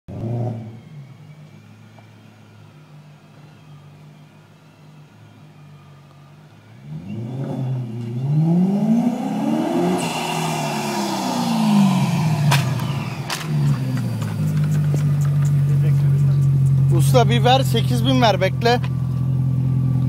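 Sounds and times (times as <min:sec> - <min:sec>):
car engine idling and revving: 0:00.1 - 0:20.0.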